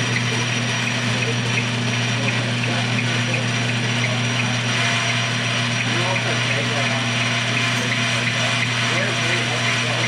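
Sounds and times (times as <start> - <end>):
metal lathe motor hum: 0.0 - 10.0.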